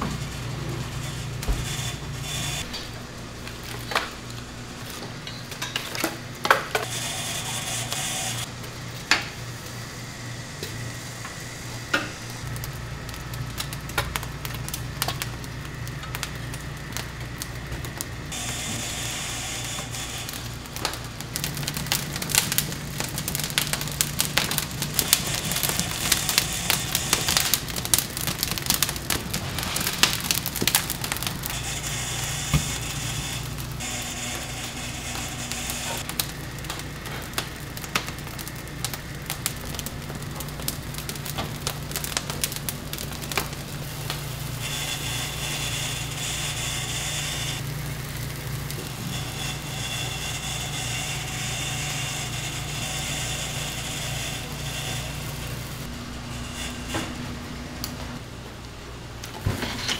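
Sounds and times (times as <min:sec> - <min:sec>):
chicken sizzling on a grill: 0:06.2 - 0:57.2.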